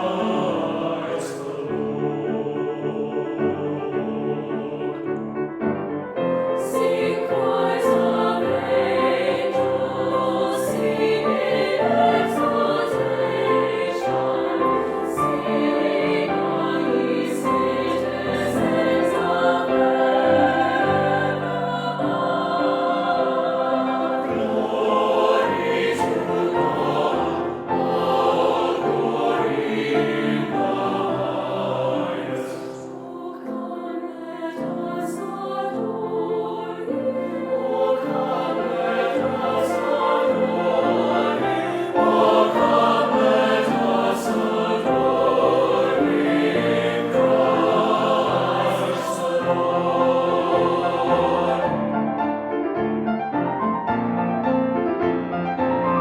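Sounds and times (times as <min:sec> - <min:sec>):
choir singing a hymn: 0:00.0 - 0:53.7.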